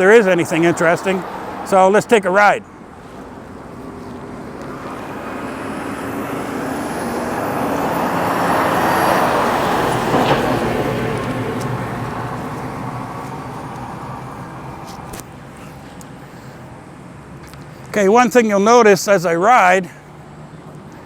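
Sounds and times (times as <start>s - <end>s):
vehicle passing by: 0.0s - 17.1s.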